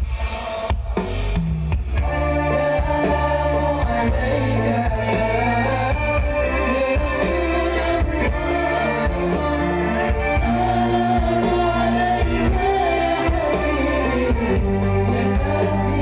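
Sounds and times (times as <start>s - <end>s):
live music through loudspeakers: 0.0s - 16.0s
person singing: 2.0s - 16.0s.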